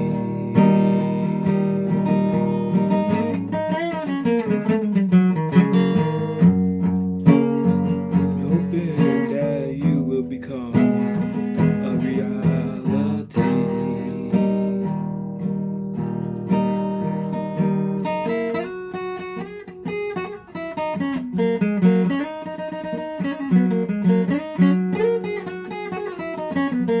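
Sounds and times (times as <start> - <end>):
guitar picked notes: 0.0 - 27.0
guitar strummed chords: 0.0 - 27.0.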